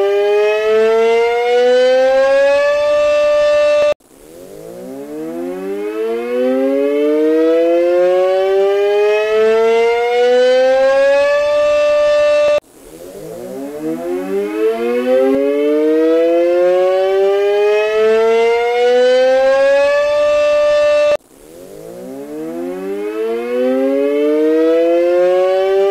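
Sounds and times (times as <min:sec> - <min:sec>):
warning siren wailing: 0:00.0 - 0:25.9.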